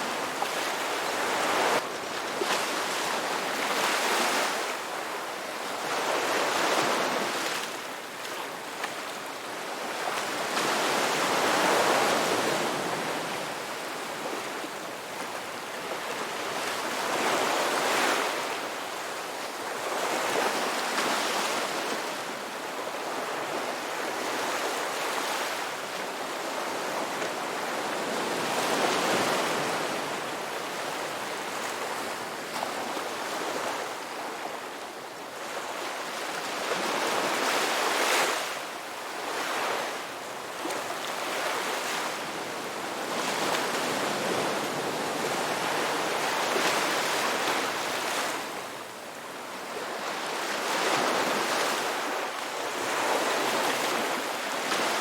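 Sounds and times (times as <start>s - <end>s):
ocean waves breaking on shore: 0.0s - 55.0s.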